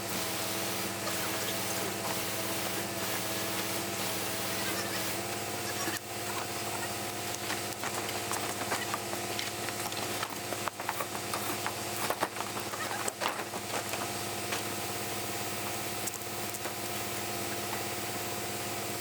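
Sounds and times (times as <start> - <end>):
pump engine droning: 0.0 - 19.0.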